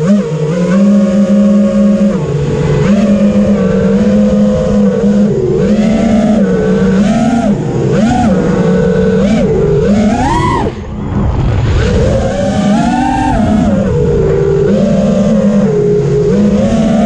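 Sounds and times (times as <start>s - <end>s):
quadcopter motors buzzing whine: 0.0s - 17.0s.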